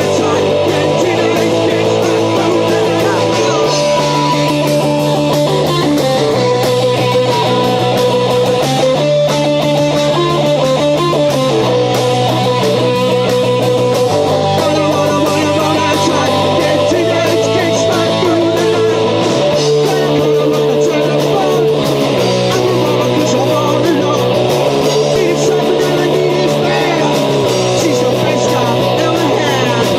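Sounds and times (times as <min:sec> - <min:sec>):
bass notes: 0:00.0 - 0:29.9
electric guitar: 0:00.0 - 0:29.9
steady drum beat: 0:00.0 - 0:29.9.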